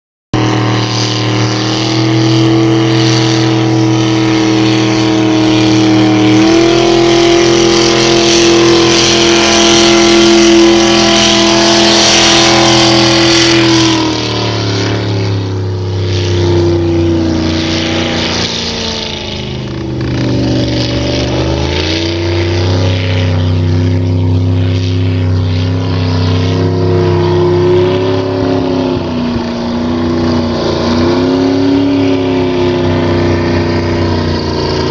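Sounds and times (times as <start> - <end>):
race boat engine running: 0.3 - 34.9.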